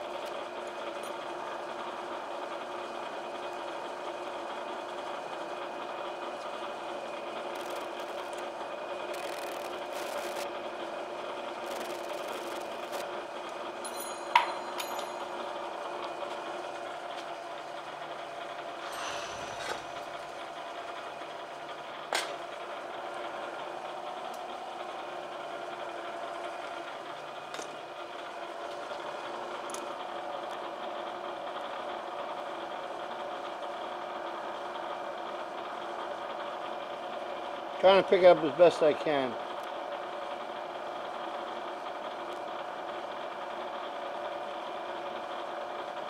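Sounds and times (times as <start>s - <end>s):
milling machine hum and whine: 0.0s - 38.7s.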